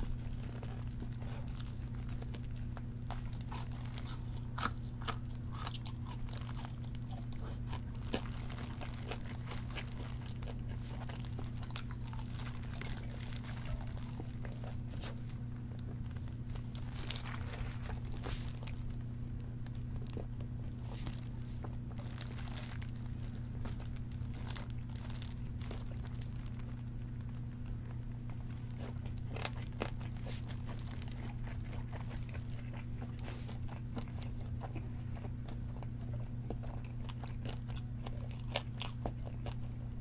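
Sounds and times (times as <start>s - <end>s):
low hum: 0.0s - 37.1s
crunchy chewing of fried chicken: 0.0s - 40.0s.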